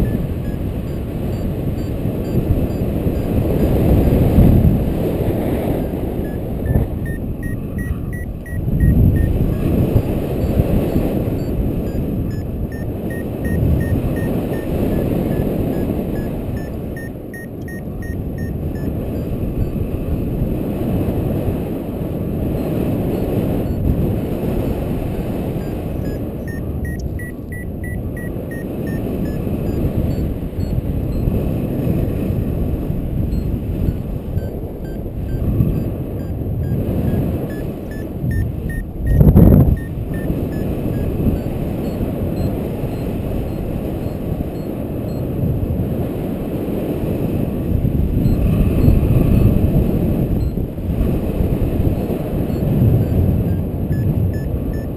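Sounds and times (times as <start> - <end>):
variometer beeping: 0.0 - 4.6, 5.6 - 20.0, 22.5 - 24.0, 25.4 - 31.6, 33.2 - 45.5, 48.2 - 49.6, 50.2 - 50.8, 51.9 - 54.9
wind rushing over microphone: 0.0 - 54.9.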